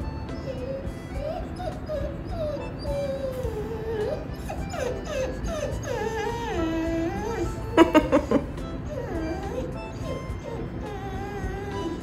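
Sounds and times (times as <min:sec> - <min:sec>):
dog whining: 0:00.0 - 0:12.0.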